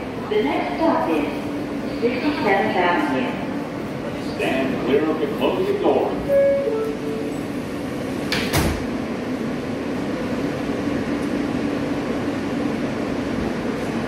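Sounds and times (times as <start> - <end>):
subway car humming: 0.0 - 14.0
subway doors sliding shut: 1.5 - 14.0.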